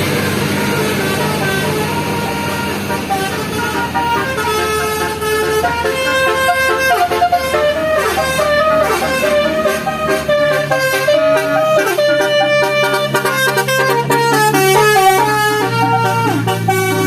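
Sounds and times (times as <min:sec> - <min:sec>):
bus engine running: 0:00.0 - 0:17.0
musical horn playing a tune: 0:00.0 - 0:17.0.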